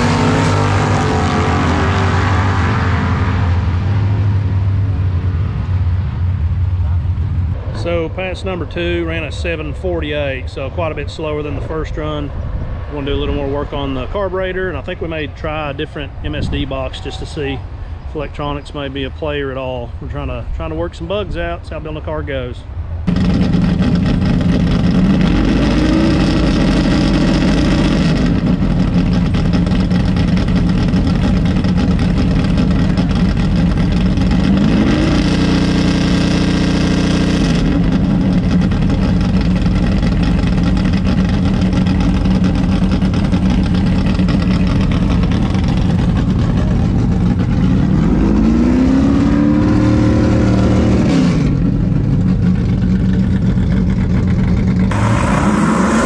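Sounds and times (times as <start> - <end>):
car engine idling and revving: 0.0 - 20.8, 22.6 - 56.0.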